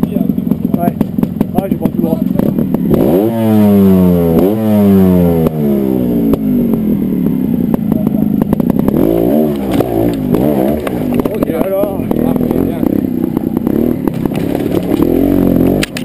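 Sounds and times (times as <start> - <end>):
motorcycle knocking over rock: 0.0 - 3.3, 6.2 - 16.0
motorcycle engine revving: 0.0 - 16.0.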